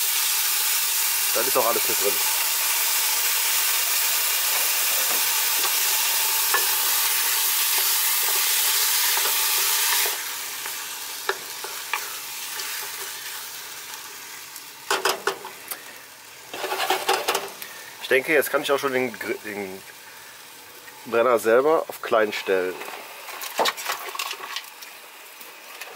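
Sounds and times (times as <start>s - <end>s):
sauce sizzling in saucepan: 0.0s - 25.9s.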